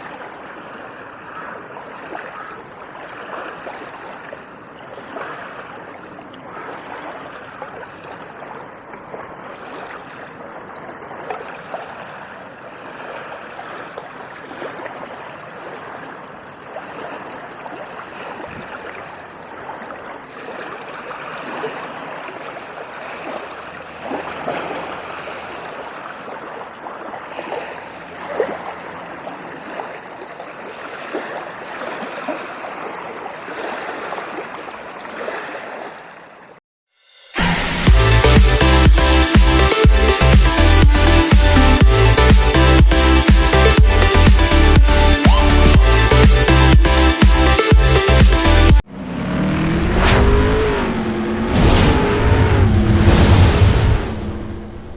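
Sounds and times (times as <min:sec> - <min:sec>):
ocean waves splashing: 0:00.0 - 0:54.9.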